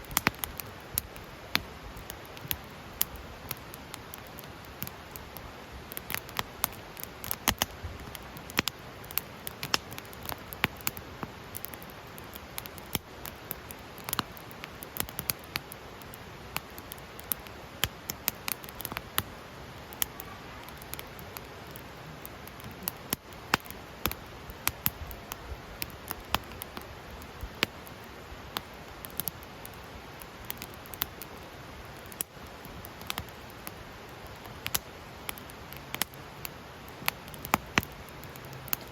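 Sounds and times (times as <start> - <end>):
low fire hiss: 0.0 - 38.9
wood fire crackling: 0.0 - 38.9.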